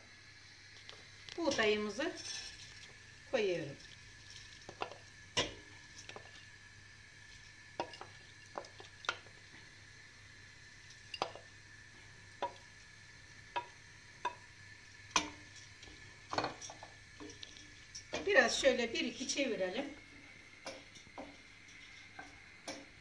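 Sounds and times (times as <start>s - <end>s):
faint sizzle of grains in fat: 0.0s - 23.0s.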